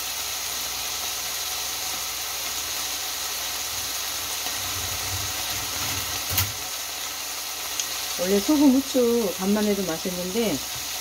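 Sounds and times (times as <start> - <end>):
meat and vegetables sizzling in oil: 0.0 - 11.0.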